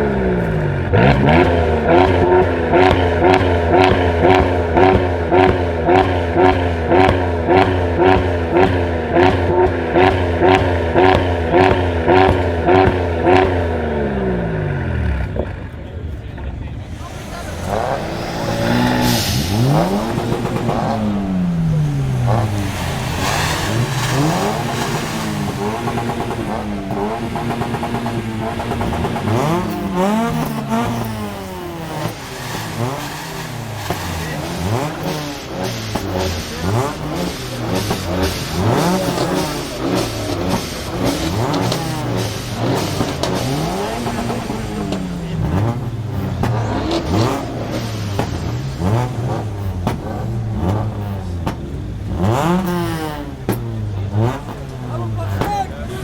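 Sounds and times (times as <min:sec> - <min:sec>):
exhaust crackles and pops: 0:00.0 - 0:13.8, 0:14.4 - 0:56.0
car engine revving: 0:00.0 - 0:56.0.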